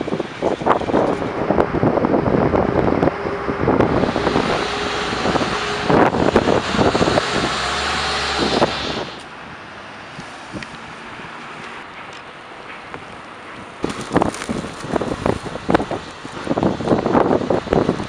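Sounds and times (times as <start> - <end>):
diesel truck engine hum: 0.0 - 18.0
street sound: 0.0 - 18.0.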